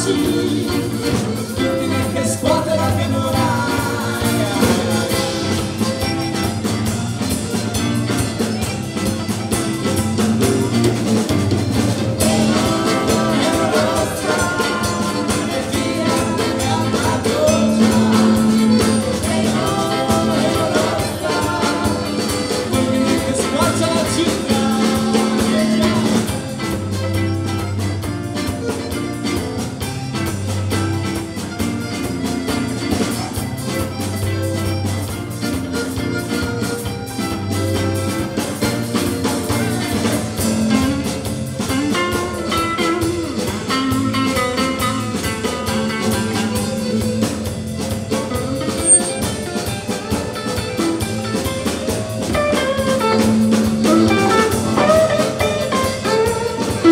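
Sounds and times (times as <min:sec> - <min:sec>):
bass guitar: 0:00.0 - 0:56.9
drum kit: 0:00.0 - 0:56.9
electric guitar: 0:00.0 - 0:56.9
piano accordion: 0:00.0 - 0:56.9.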